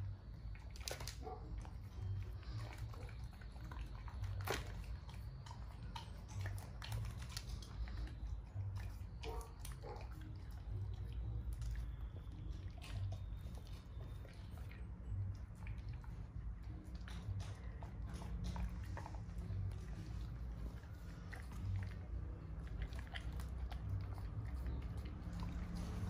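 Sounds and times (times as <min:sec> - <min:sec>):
dog crunching food: 0:00.0 - 0:26.0
low steady hum: 0:00.0 - 0:26.0.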